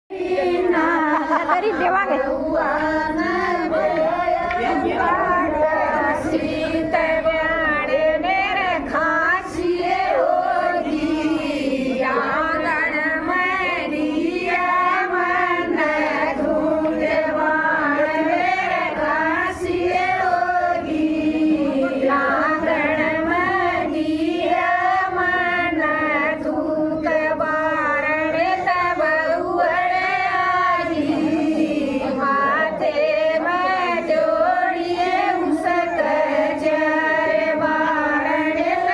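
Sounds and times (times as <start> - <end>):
women singing together in unison: 0.1 - 38.9.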